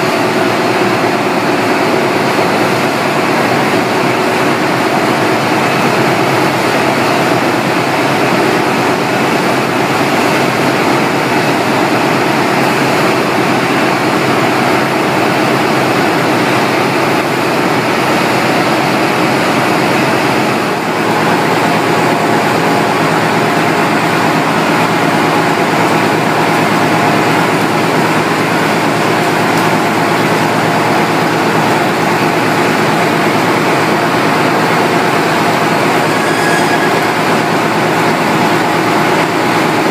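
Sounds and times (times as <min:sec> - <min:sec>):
conveyor machinery running: 0:00.0 - 0:39.9.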